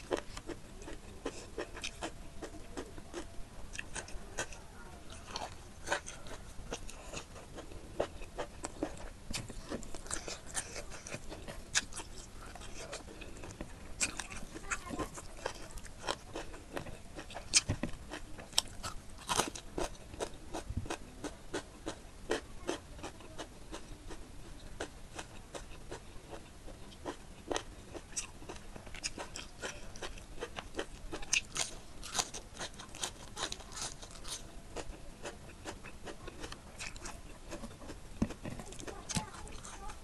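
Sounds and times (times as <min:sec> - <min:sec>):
crunchy vegetable bite: 0:00.0 - 0:22.8, 0:24.8 - 0:40.0
chewing with wet mouth clicks: 0:00.0 - 0:24.2, 0:24.8 - 0:40.0.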